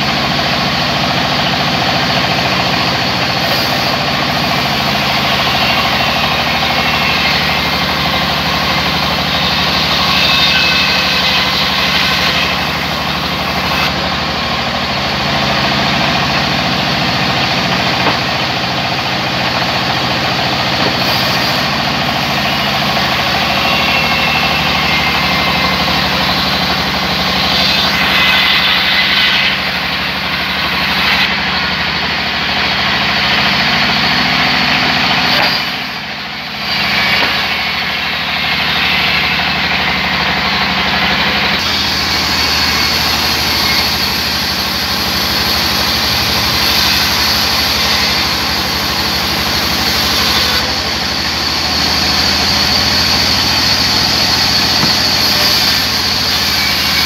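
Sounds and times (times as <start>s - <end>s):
machine drone: 0.0s - 57.0s
band saw blade rasping wood: 1.4s - 57.0s.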